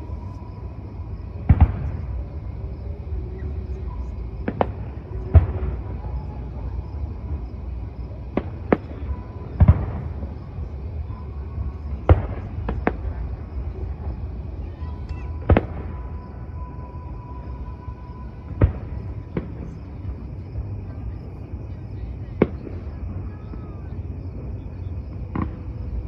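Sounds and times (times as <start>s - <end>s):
fireworks bangs and crackle: 0.0s - 26.0s
low rumble: 0.0s - 26.0s.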